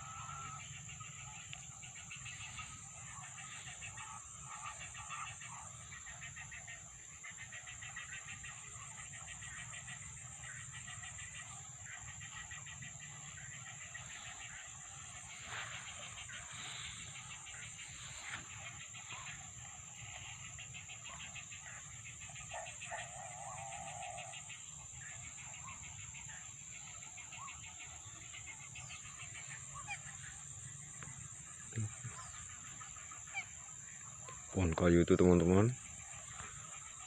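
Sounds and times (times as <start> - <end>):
steady high-pitched hum: 0.0 - 34.8
flock of birds chattering: 0.0 - 37.0.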